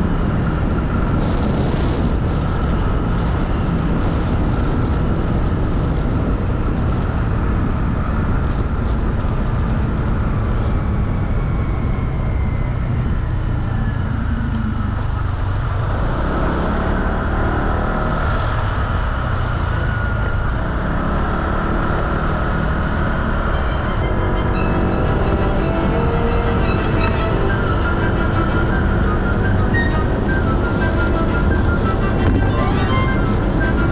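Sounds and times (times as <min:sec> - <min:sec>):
road and wind noise: 0:00.0 - 0:33.9.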